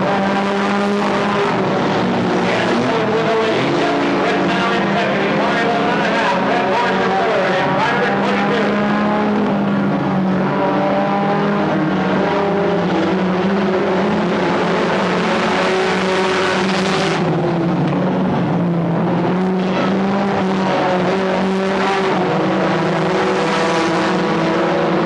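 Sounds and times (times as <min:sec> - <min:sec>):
stock car engines racing: 0:00.0 - 0:25.0.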